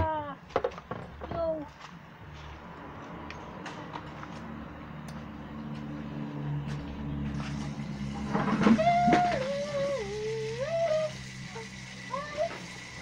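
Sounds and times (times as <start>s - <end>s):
low motor hum: 2.2s - 13.0s.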